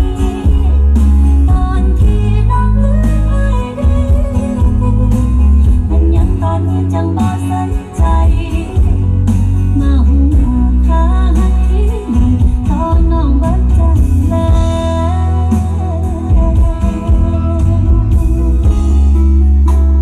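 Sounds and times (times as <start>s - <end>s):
song with heavy bass over loudspeakers: 0.0s - 20.0s.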